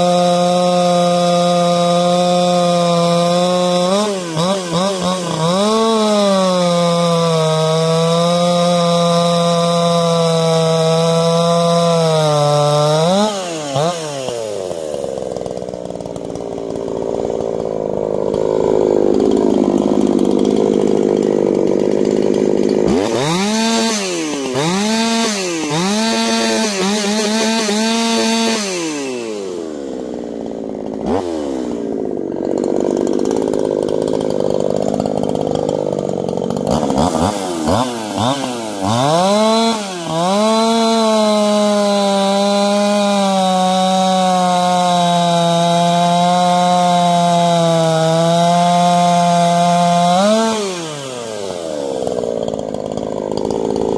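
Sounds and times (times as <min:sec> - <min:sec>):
chainsaw running and revving: 0:00.0 - 0:53.9.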